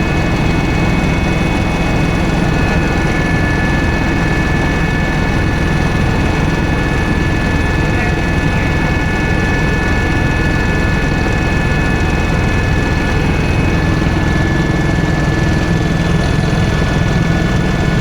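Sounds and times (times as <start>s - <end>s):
helicopter engine and rotor drone: 0.0s - 18.0s
high-pitched turbine whine: 0.0s - 18.0s.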